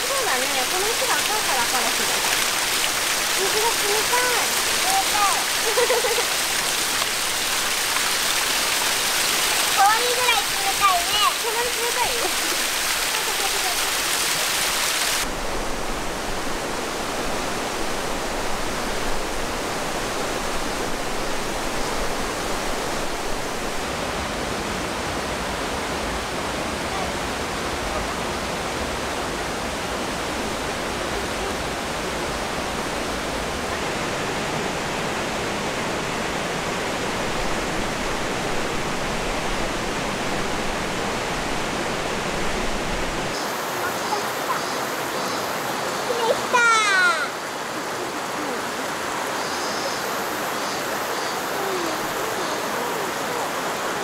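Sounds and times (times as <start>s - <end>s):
river and waterfalls rushing: 0.0s - 54.0s.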